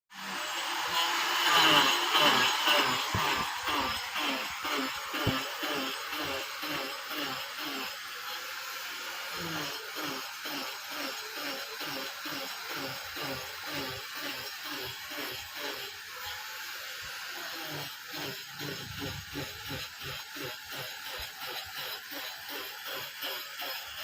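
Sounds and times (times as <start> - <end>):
hand tool strokes on wood: 0.2 - 24.0.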